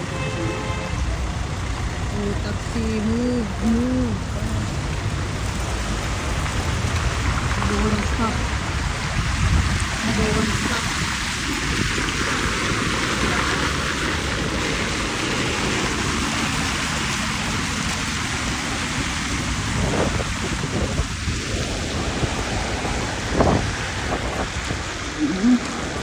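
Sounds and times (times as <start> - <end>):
rain and wind on microphone: 0.0 - 26.0.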